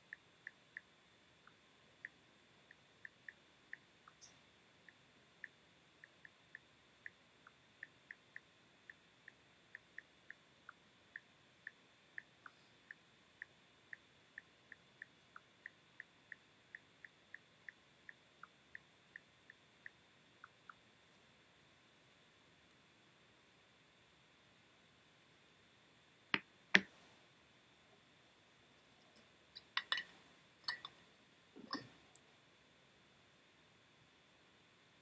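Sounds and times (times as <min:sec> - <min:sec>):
faint high-pitched electrical whine: 0:00.0 - 0:35.0.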